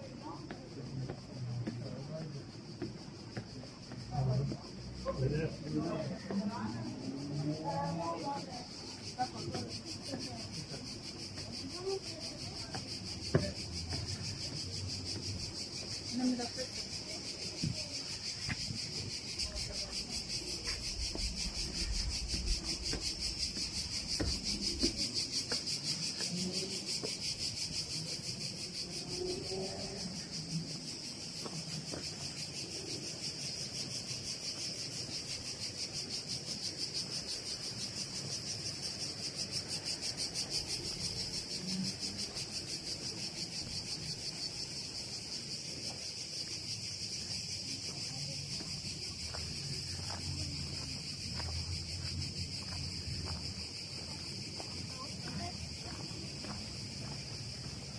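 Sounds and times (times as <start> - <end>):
cicadas buzzing: 0.0 - 57.9.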